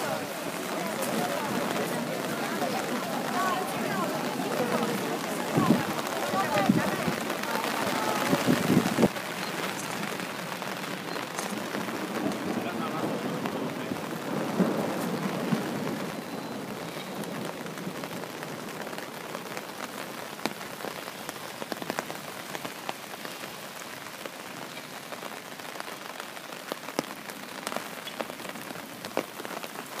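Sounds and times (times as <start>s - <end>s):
raindrops tapping close by: 0.0s - 30.0s
steady rain hiss: 0.0s - 30.0s.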